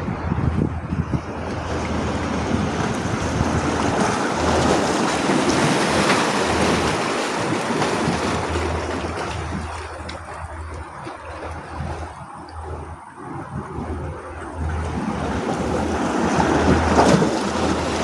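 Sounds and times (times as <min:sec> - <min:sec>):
ocean waves washing: 0:00.0 - 0:18.0.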